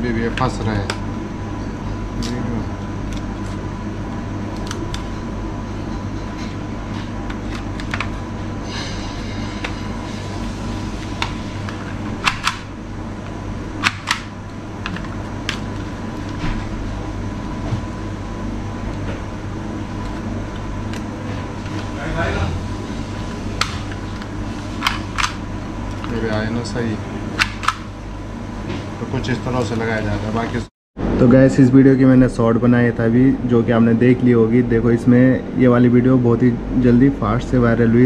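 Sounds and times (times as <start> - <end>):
fan hum: 0.0 - 38.0.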